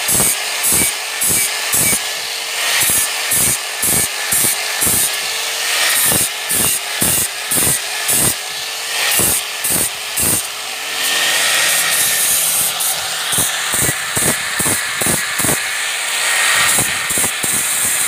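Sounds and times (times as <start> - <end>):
hand tool rasping wood: 0.0 - 18.0.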